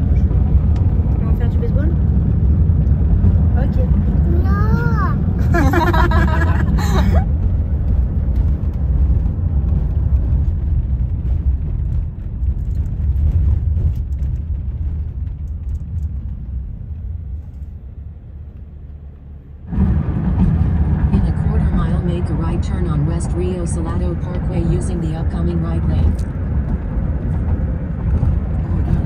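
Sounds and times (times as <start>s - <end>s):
car interior rumble: 0.0s - 29.0s.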